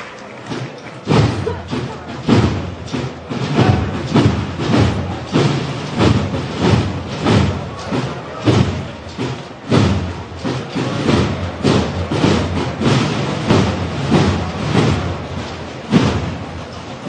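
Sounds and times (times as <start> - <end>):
heavy drum beats: 0.0 - 17.0
procession band music: 0.5 - 17.0.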